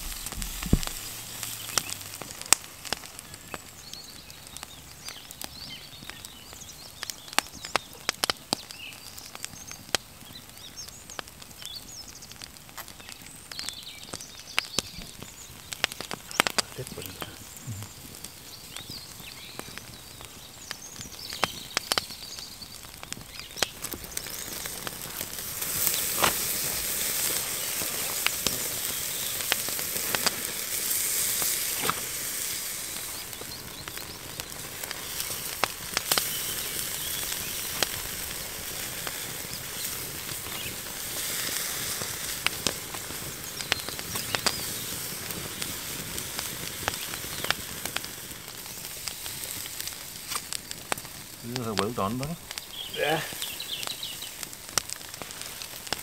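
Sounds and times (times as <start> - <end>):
ribs sizzling on a grill: 0.0 - 56.0
wood fire crackling and popping: 0.0 - 56.0.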